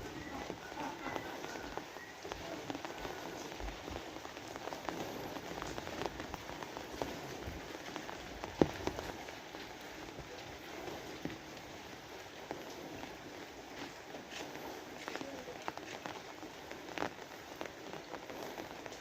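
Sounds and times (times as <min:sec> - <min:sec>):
rain falling: 0:00.0 - 0:19.0
raindrops ticking on hard surface: 0:00.0 - 0:19.0.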